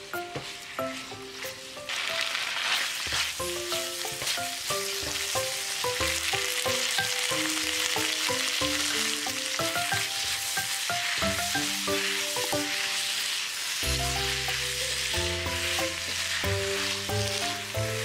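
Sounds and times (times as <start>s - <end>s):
background music: 0.0s - 18.0s
food sizzling in frying pan: 0.0s - 18.0s.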